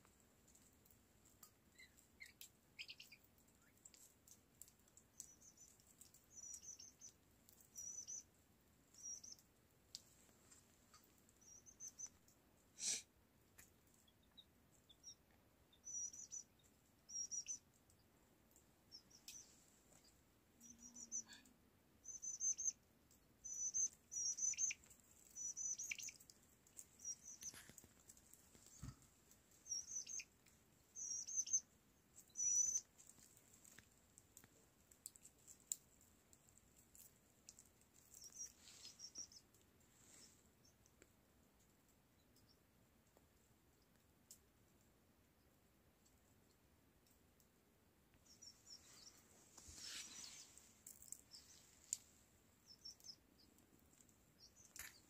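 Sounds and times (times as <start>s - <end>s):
small bird chirping: 1.4s - 9.5s, 10.2s - 13.0s, 13.6s - 35.8s, 36.5s - 41.0s, 42.1s - 42.7s, 48.1s - 55.0s.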